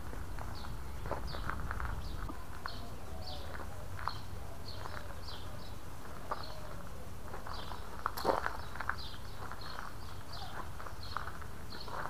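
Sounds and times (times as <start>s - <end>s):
footsteps on gravel: 0.0s - 12.0s
bird chirping: 0.5s - 12.0s.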